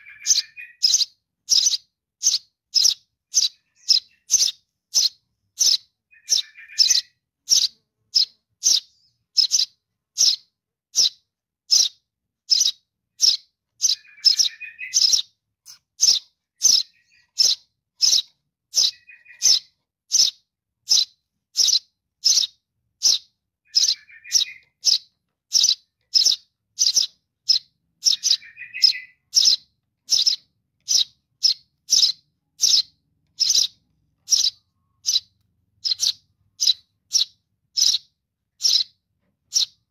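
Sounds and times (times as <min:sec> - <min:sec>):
baby sparrow chirping: 0:00.0 - 0:39.9
rough twittering call: 0:00.0 - 0:39.9.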